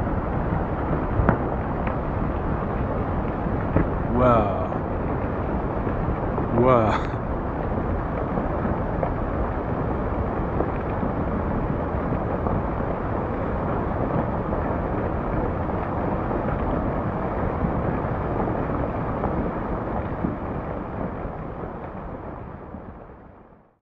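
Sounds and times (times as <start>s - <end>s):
rockslide rumbling: 0.0s - 23.5s.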